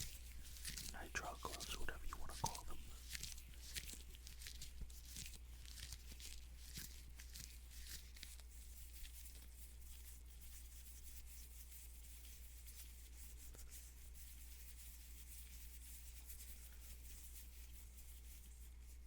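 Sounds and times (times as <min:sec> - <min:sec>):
gloves rubbing and crinkling: 0:00.0 - 0:19.0
low electrical hum: 0:00.0 - 0:19.0.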